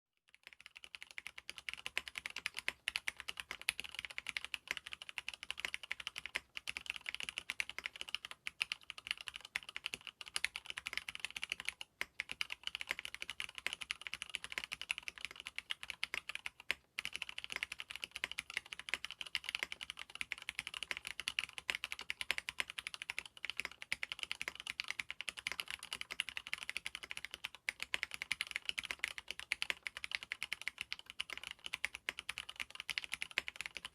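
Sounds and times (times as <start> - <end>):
fast typing on mechanical keyboard: 0.3 - 33.9.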